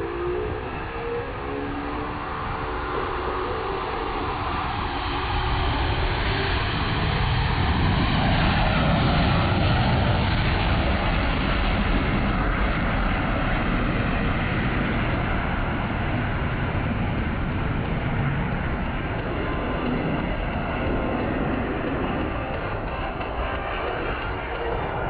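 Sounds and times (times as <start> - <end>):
jet roar: 0.0 - 25.0.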